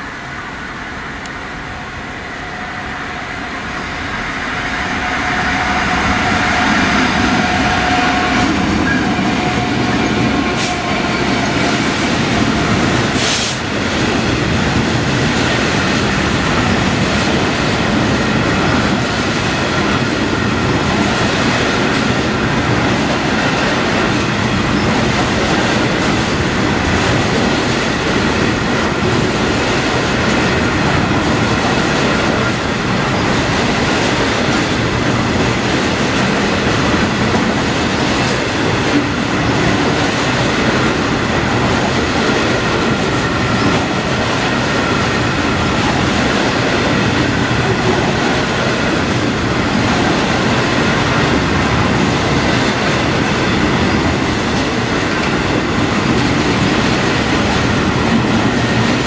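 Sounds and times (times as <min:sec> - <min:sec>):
diesel locomotive passing: 0:00.0 - 0:59.0
hopper wagons rolling on rails: 0:04.0 - 0:59.0.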